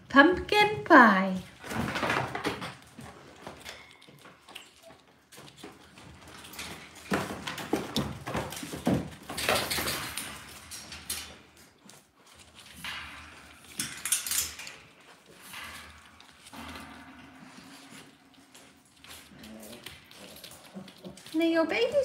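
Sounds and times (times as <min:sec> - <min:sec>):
puppies rattling wire mesh: 0:01.4 - 0:22.0.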